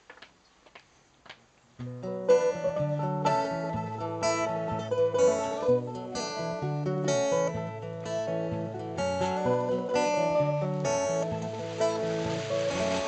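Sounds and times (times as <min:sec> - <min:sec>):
acoustic guitar strumming chords: 0:01.8 - 0:13.0
plucked string melody: 0:01.8 - 0:13.0.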